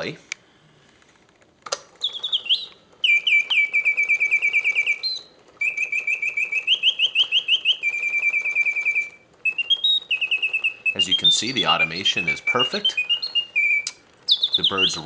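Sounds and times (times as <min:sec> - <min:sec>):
mechanical birdsong whistling: 0:01.9 - 0:15.0.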